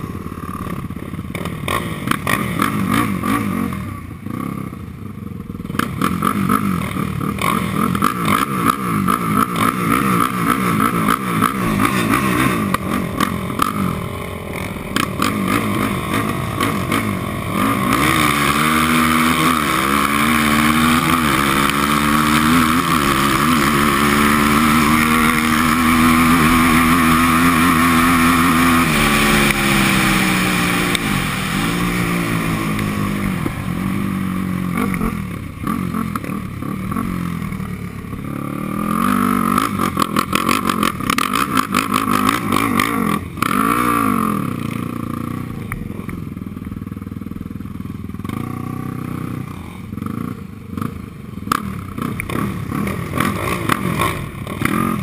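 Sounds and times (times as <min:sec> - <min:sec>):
other off-road engines: 0:00.0 - 0:55.0
quad engine running: 0:00.0 - 0:55.0.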